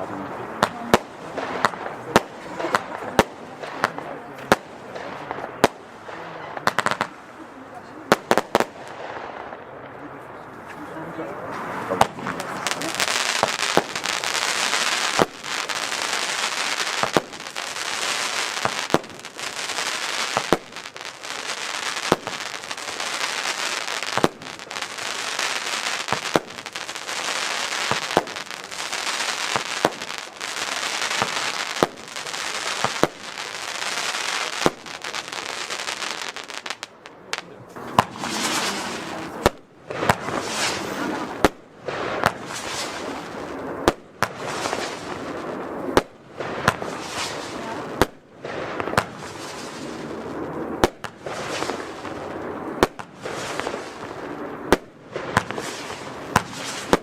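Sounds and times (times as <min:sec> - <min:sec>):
firework bangs: 0:00.0 - 0:57.0
firework crackling: 0:00.0 - 0:57.0
firework reports: 0:00.0 - 0:57.0.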